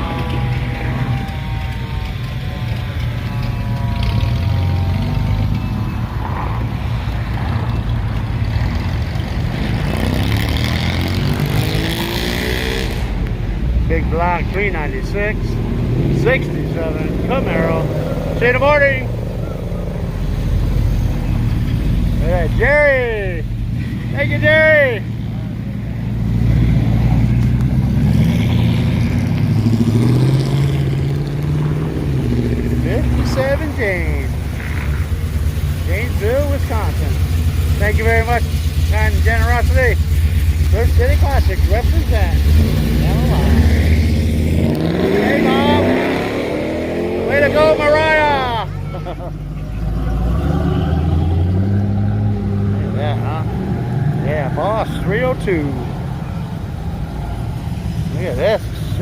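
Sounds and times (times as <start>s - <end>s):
car engines rumbling: 0.0s - 59.0s
engine revving: 0.0s - 59.0s.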